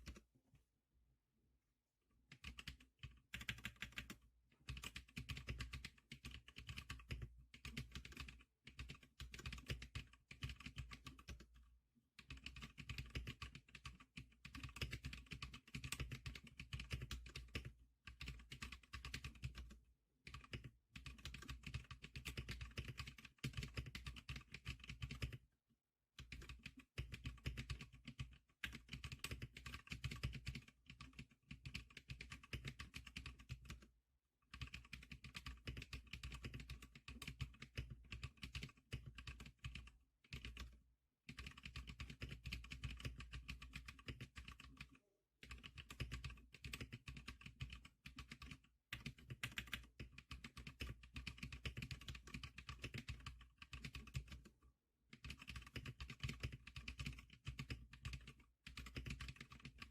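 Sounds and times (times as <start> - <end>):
fast keyboard typing: 0.0 - 0.2, 2.3 - 25.5, 26.2 - 59.9.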